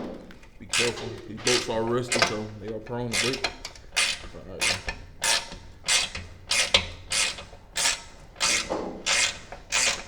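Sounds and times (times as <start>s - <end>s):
hand ratchet clicking: 0.7s - 10.0s.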